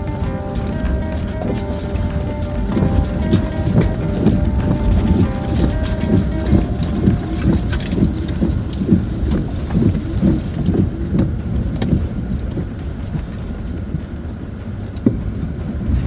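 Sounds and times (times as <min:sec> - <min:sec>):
knocks and rattles from bumps: 0:00.0 - 0:14.1
engine and tyre rumble: 0:00.0 - 0:16.0.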